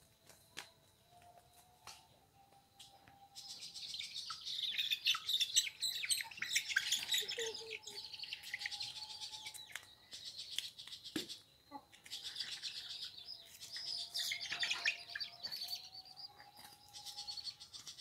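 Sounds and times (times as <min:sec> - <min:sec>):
birds chirping: 0:02.0 - 0:18.0.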